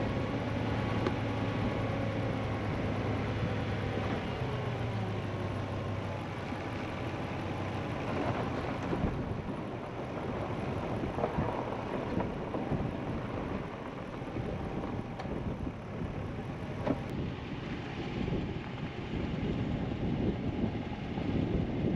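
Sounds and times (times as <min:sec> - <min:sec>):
vehicle rumble: 0:00.0 - 0:21.9.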